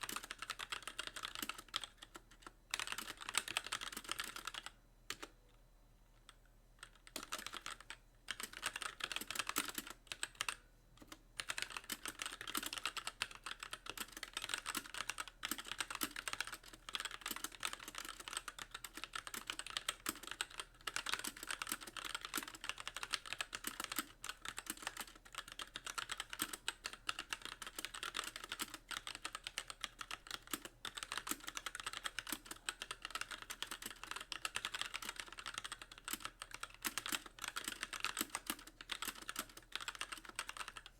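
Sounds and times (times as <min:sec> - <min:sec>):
mechanical keyboard typing: 0:00.0 - 0:05.3, 0:06.8 - 0:40.9.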